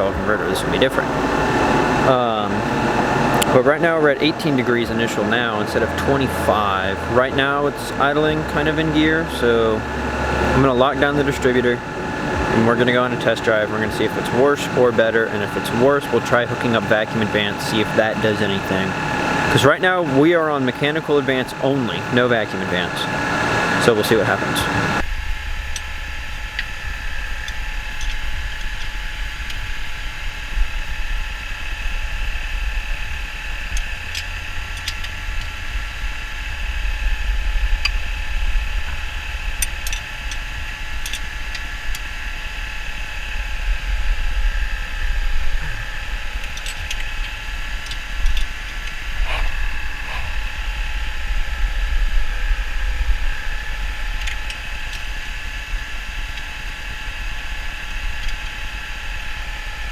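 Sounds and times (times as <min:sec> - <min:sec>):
truck engine idling: 0:00.0 - 0:25.0, 0:33.9 - 0:59.9.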